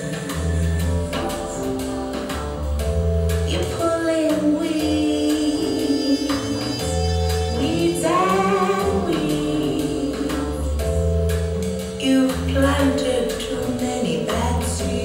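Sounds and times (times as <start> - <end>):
song through speakers: 0.0 - 15.0.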